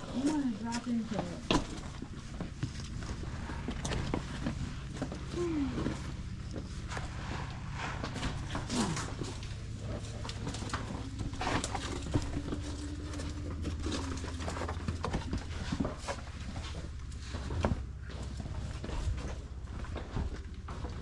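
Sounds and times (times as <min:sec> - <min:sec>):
clicks and rustles: 0:00.0 - 0:21.0
steady low rumble: 0:00.0 - 0:21.0.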